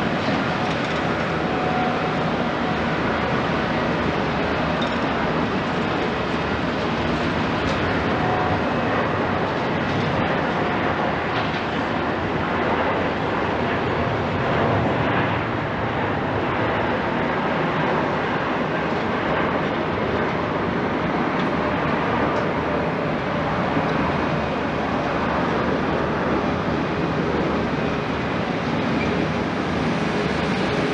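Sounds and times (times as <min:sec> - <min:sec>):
jet engines roaring: 0:00.0 - 0:30.9.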